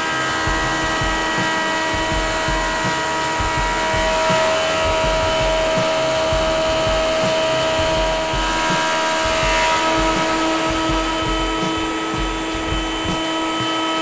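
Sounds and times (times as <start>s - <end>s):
thickness planer whining: 0.0s - 14.0s.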